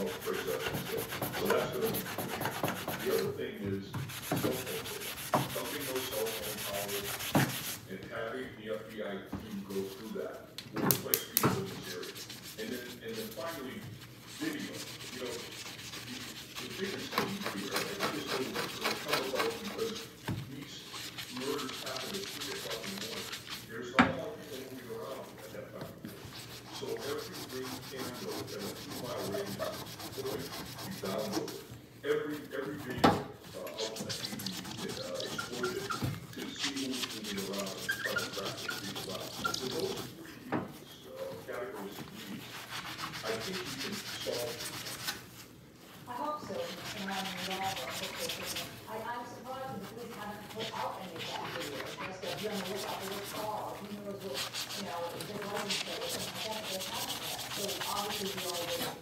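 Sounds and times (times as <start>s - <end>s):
sponge scrubbing wet stovetop: 0.0s - 8.0s, 8.8s - 10.4s, 11.3s - 59.0s.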